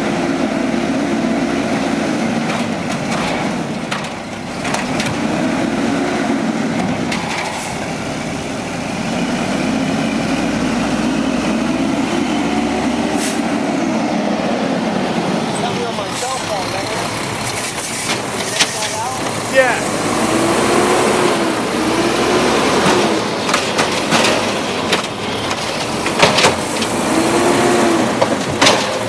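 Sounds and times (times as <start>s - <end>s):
garbage truck engine revving: 0.0s - 29.0s.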